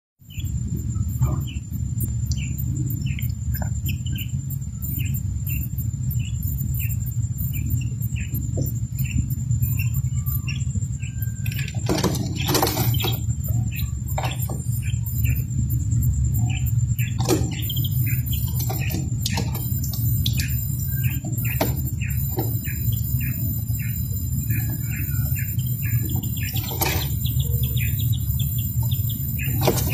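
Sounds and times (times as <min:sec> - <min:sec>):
chick peeping: 0:00.2 - 0:29.9
faint high whine: 0:00.2 - 0:29.9
low hum: 0:00.2 - 0:29.9.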